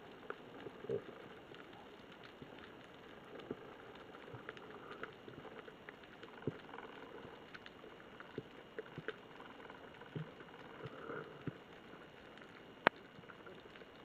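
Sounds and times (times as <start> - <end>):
low underwater hiss: 0.0 - 14.0
sharp clicks and crackles: 0.0 - 14.0.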